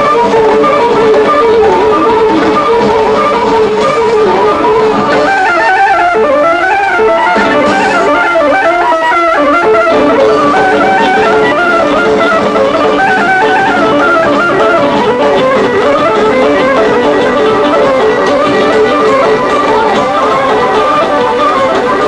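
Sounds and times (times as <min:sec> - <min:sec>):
band playing fast dance music: 0:00.0 - 0:22.0.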